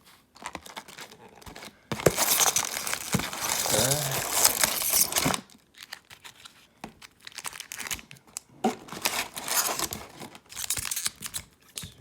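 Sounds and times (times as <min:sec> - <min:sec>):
foil wrappers crinkling: 0:00.2 - 0:12.0.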